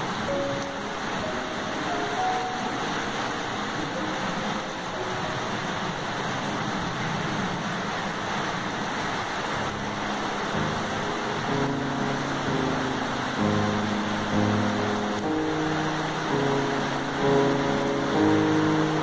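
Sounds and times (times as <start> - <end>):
heavy rain on metal roof: 0.0 - 19.0.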